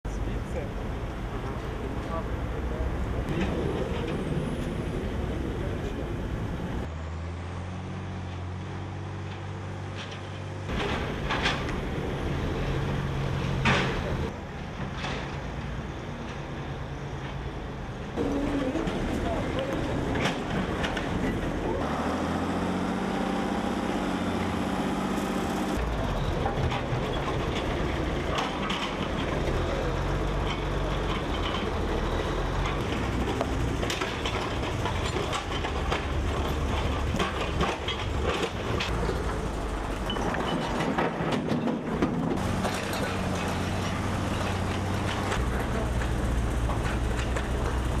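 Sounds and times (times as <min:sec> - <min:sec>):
diesel engines running: 0:00.1 - 0:48.0.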